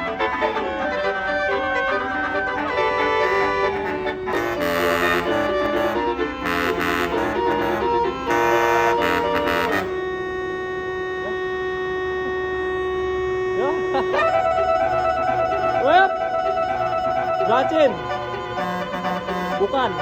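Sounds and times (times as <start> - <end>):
bus air horn melody: 0.0 - 20.0.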